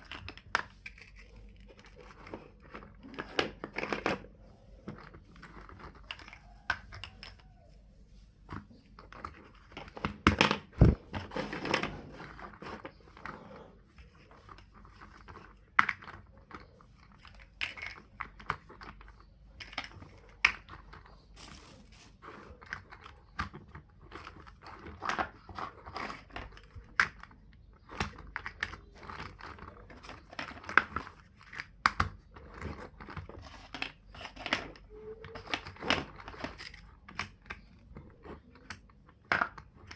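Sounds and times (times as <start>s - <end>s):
plastic blocks clicking together: 0.0s - 7.4s, 14.0s - 39.9s.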